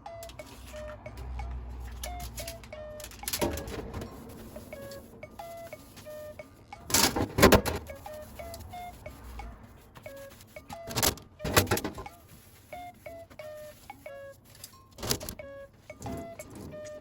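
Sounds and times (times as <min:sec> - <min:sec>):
plucked background music: 0:00.0 - 0:17.0.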